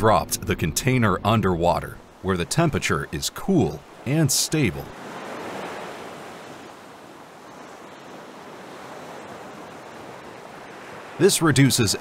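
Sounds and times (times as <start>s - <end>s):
sea water washing and churning: 0.8s - 12.0s.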